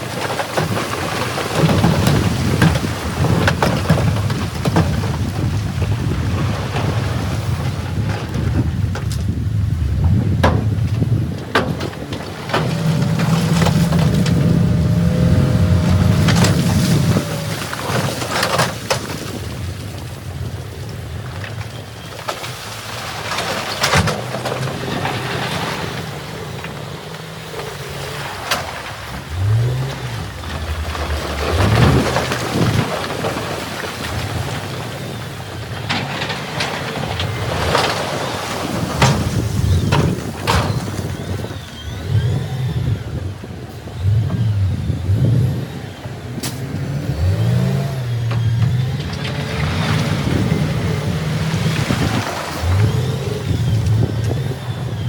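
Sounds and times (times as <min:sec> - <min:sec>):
diesel engine running: 0:00.0 - 0:55.0
rushing water: 0:00.0 - 0:55.0.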